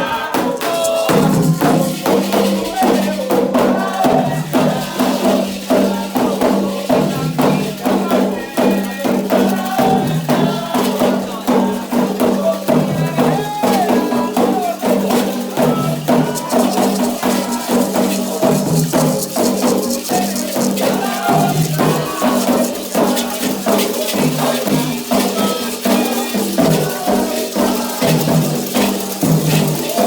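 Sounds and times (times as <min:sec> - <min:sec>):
drums beating: 0:00.0 - 0:30.0
rattle or shaker: 0:00.0 - 0:30.0
voices singing a chant: 0:00.0 - 0:30.0.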